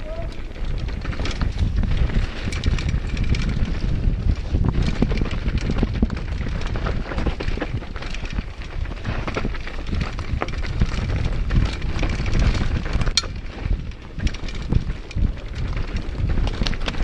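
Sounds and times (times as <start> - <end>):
bike clicks and rattles: 0.0 - 17.0
tyres rumbling over dirt: 0.0 - 17.0
wind on microphone: 0.0 - 17.0.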